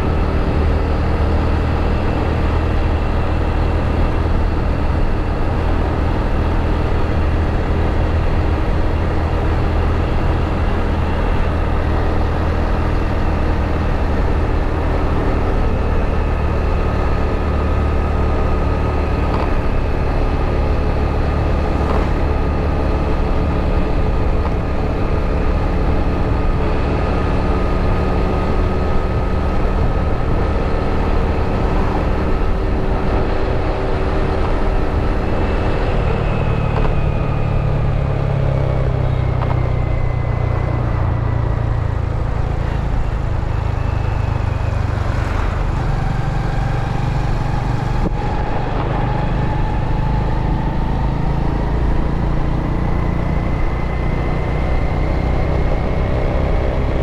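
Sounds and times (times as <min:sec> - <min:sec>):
road and wind noise: 0:00.0 - 0:57.0.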